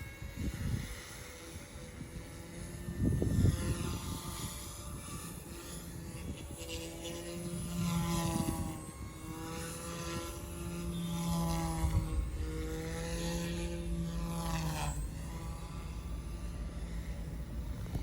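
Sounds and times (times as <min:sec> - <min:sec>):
rc helicopter rotor whine: 0:00.0 - 0:18.0
wind buffeting microphone: 0:00.0 - 0:18.0.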